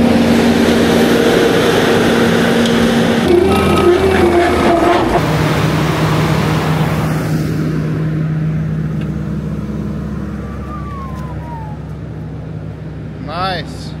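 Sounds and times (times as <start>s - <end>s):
broad rushing noise: 0.0s - 14.0s
skid-steer engine running: 0.0s - 14.0s.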